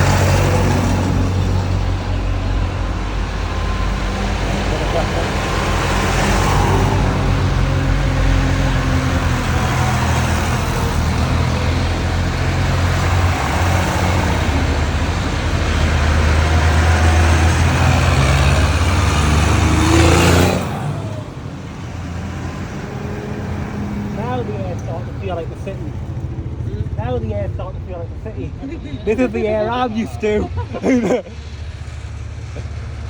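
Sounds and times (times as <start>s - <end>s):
tractor diesel engines droning: 0.0s - 33.0s.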